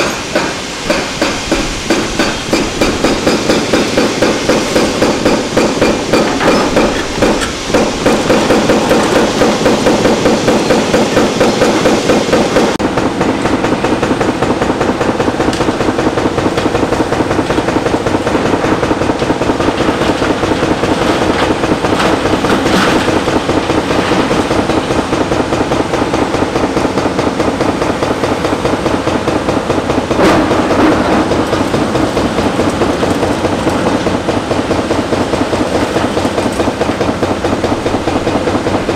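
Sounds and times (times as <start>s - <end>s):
excavator running under load: 0.0s - 38.9s
hydraulic breaker pounding concrete: 0.0s - 38.9s.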